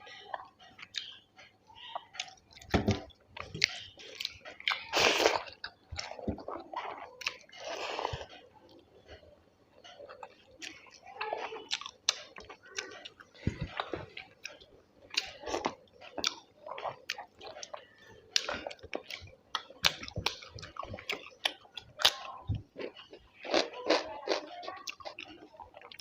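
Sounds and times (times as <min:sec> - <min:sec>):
person chewing food: 0:00.3 - 0:26.0.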